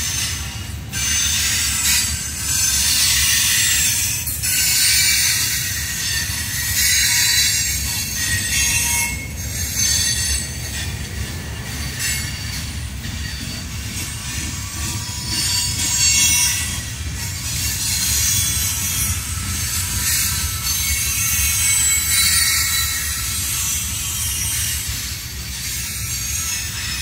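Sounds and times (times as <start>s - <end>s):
freight train wheels rumbling: 0.0s - 27.0s
high-pitched wheel squeal: 0.0s - 27.0s.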